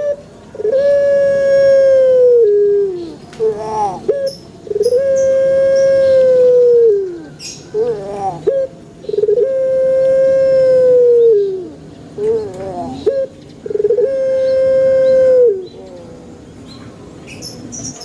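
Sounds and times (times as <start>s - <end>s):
dove cooing: 0.0s - 16.4s.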